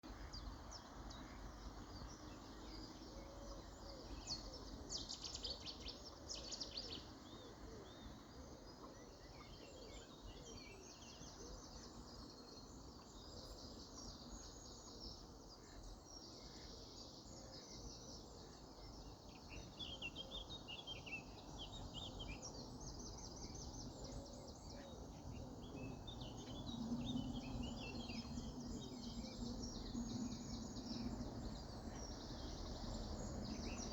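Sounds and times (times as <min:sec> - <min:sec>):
low outdoor background noise: 0:00.0 - 0:33.9.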